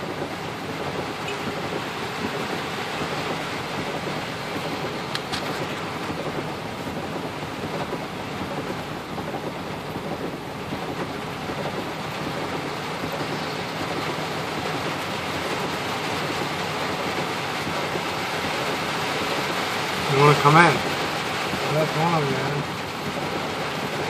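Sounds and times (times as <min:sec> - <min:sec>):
heavy rain on a car roof: 0:00.0 - 0:24.0.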